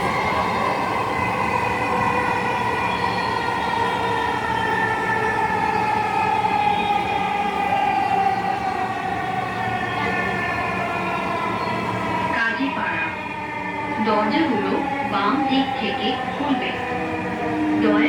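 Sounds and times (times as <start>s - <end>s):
metro train running: 0.0s - 18.0s.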